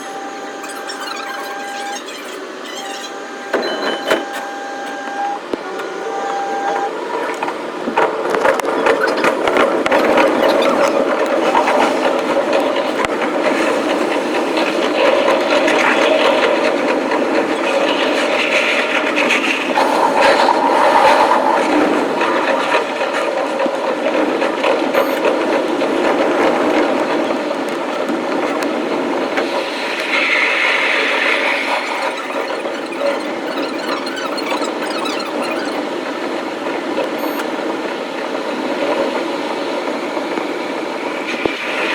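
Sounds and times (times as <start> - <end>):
high wheel squeal: 0.0 - 37.6
train rumbling on rails: 5.4 - 41.9
wheels rattling clicks: 6.7 - 40.5.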